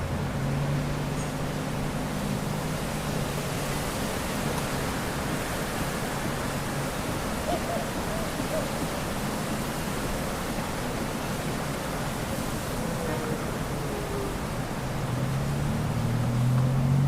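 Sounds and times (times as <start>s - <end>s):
wind rustling bamboo: 0.0s - 17.0s.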